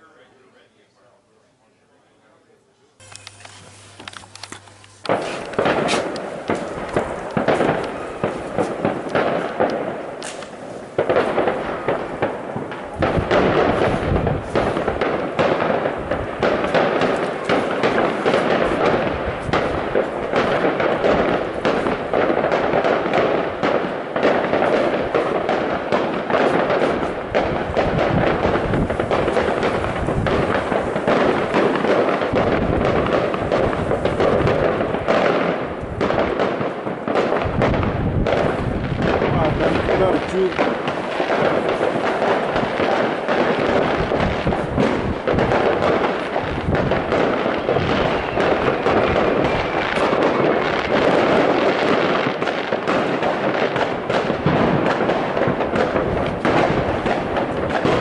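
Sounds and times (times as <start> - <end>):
fireworks crackling bangs: 3.0 - 58.0.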